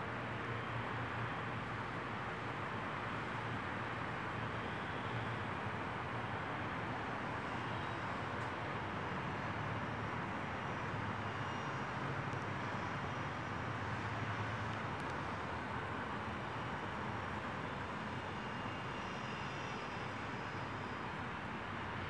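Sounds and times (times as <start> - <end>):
distant city traffic: 0.1 - 22.0.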